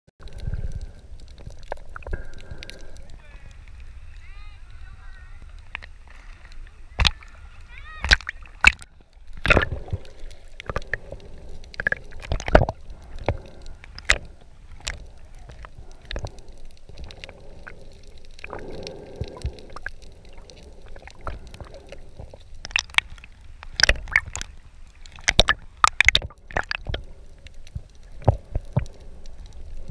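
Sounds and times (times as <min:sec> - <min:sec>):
water sloshing and gurgling: 0:00.2 - 0:29.9.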